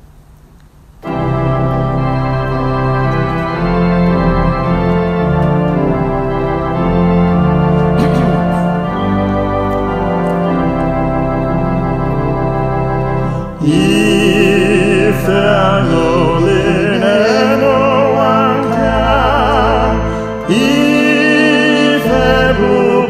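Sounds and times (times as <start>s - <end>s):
church organ chords: 0.8s - 23.0s.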